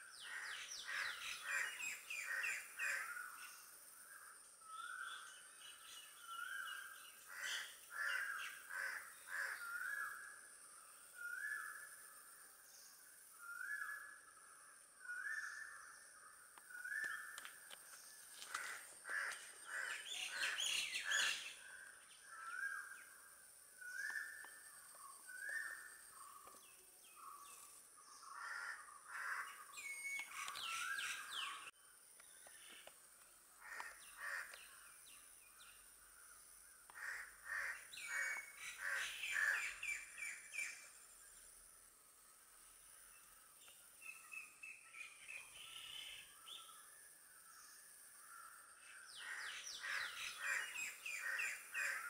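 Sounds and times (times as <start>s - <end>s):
birds chirping and twittering: 0.0s - 52.0s.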